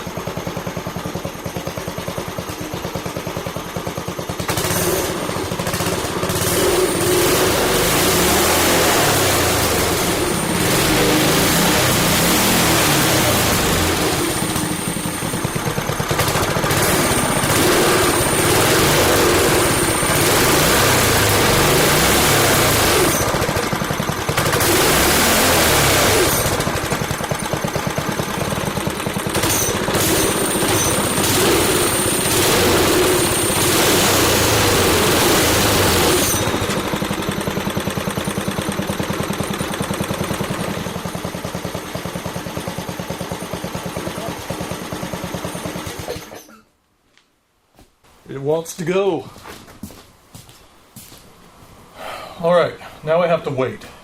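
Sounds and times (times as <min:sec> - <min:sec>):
go-kart engine revving: 0:00.0 - 0:46.5.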